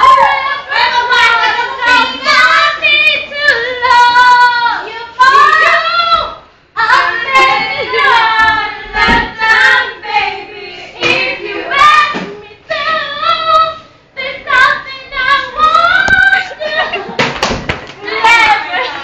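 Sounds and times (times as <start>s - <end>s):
girl singing unaccompanied: 0.0s - 17.1s.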